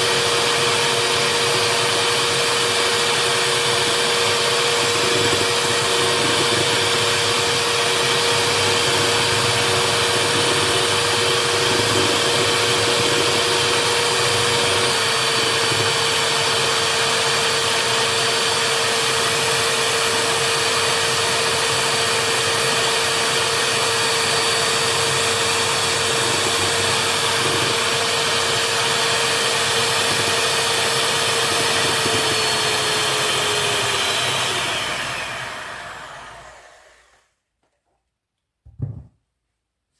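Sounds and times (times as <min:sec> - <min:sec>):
electric mixer motor whine: 0:00.0 - 0:37.3.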